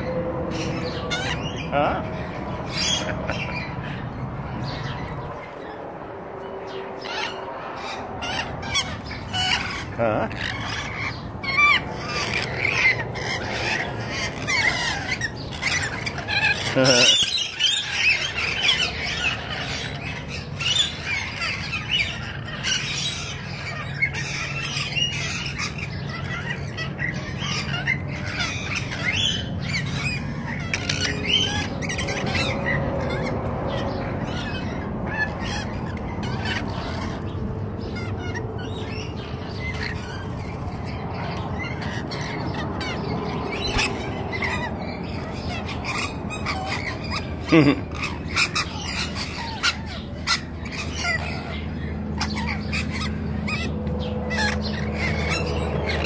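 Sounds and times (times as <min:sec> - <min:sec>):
lorikeets squawking: 0:00.0 - 0:56.0.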